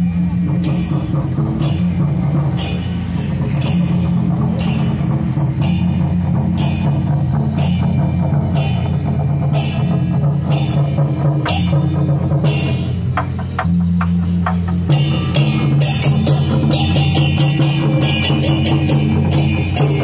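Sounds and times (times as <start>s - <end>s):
cymbal clashes: 0.0s - 20.0s
drums: 0.0s - 20.0s
low held notes: 0.0s - 20.0s.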